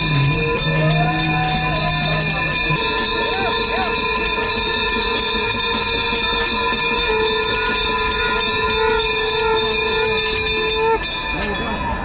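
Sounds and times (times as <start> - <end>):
brass hand bells ringing rapidly: 0.0 - 12.0.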